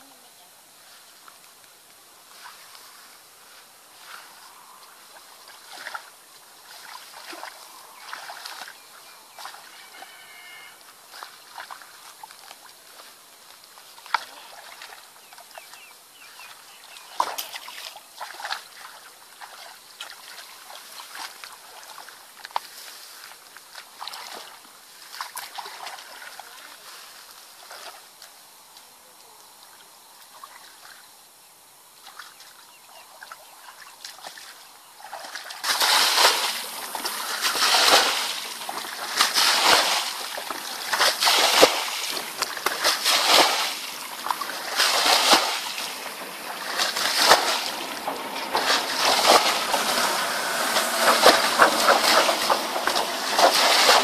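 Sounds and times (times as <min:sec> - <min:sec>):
feet wading through muddy water: 0:02.3 - 0:28.2, 0:32.0 - 0:54.0
water splashing from buckets: 0:05.0 - 0:28.2, 0:33.2 - 0:54.0.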